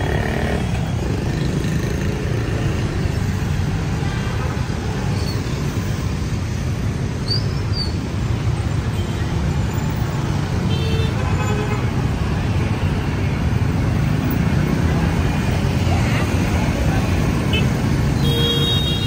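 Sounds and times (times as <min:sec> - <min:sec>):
street traffic with motorbikes: 0:00.0 - 0:19.0.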